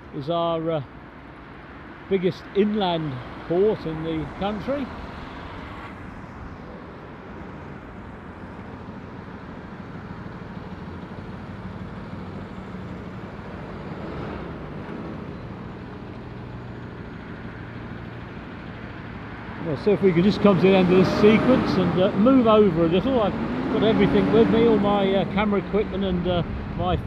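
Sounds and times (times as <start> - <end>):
cars passing: 0.0 - 27.0
lorry diesel engine running: 2.6 - 27.0.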